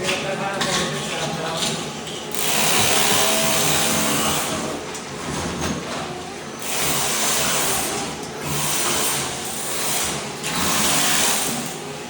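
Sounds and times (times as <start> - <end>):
floor scraper machine running: 2.3 - 12.0.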